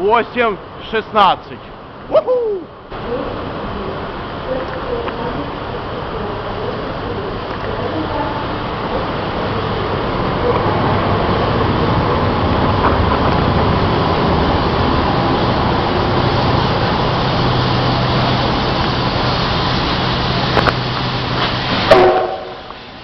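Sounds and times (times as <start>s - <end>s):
train rumbling close by: 0.0s - 23.0s.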